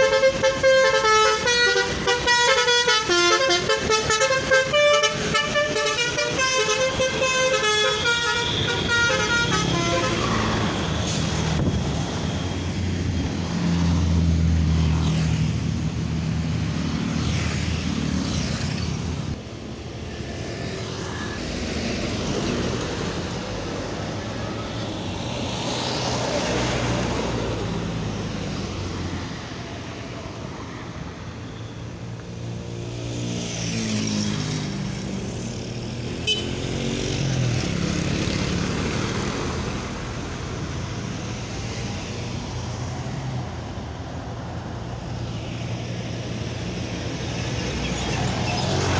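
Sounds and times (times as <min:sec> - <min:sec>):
buses driving past: 0:00.0 - 0:48.9.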